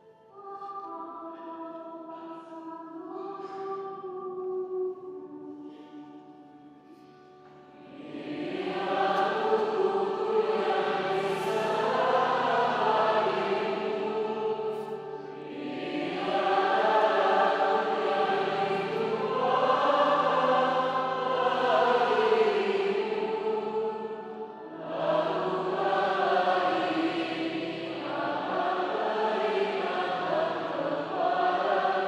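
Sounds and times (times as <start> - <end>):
choir singing: 0.3 - 6.0, 7.7 - 32.0.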